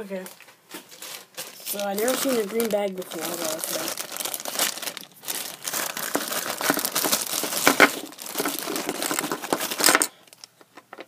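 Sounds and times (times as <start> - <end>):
plastic bag crinkling: 0.2 - 10.6.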